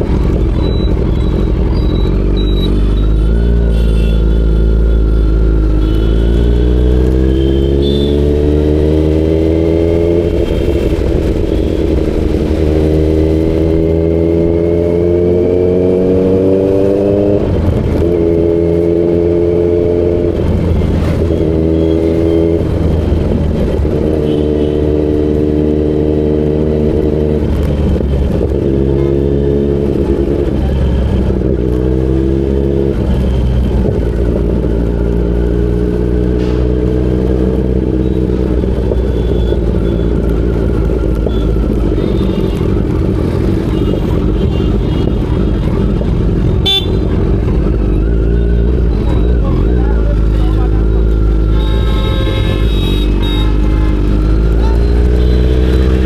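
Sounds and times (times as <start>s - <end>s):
motorcycle engine revving through gears: 0.0s - 56.0s.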